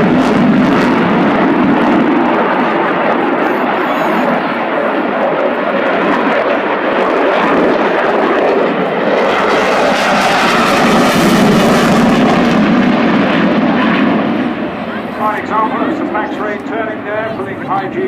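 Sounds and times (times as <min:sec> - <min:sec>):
fighter jet engines roaring: 0:00.0 - 0:18.0.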